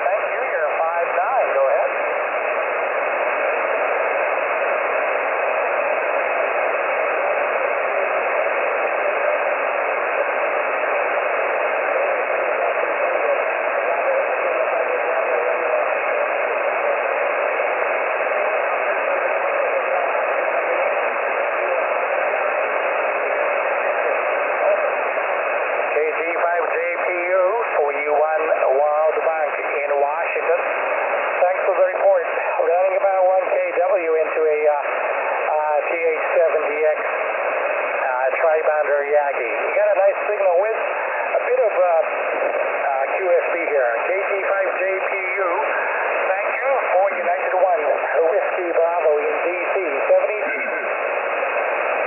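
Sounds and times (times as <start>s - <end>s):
radio static hiss: 0.0s - 52.0s.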